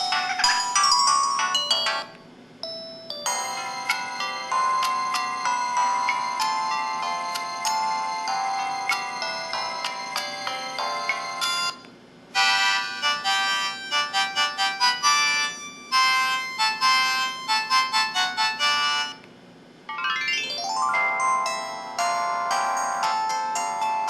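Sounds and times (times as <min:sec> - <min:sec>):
phone ringtone melodies: 0:00.0 - 0:11.8, 0:12.4 - 0:19.2, 0:19.9 - 0:24.0.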